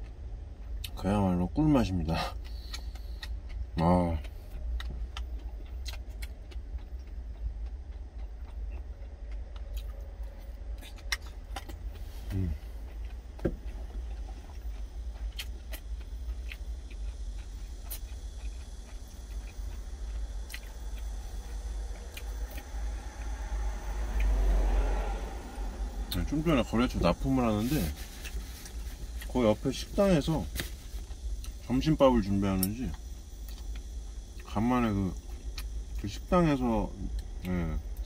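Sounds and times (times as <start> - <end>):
quiet chewing: 1.6 - 36.2.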